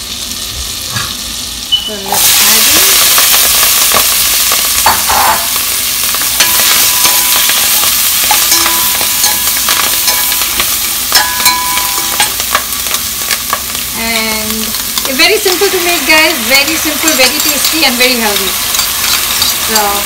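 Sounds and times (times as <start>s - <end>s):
vegetables sizzling in butter: 0.0s - 20.0s.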